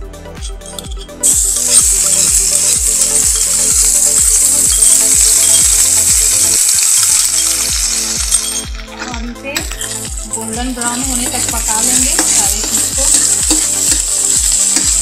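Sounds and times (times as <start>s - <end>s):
background music with steady beat: 0.0s - 15.0s
paste sizzling in hot oil: 0.7s - 15.0s.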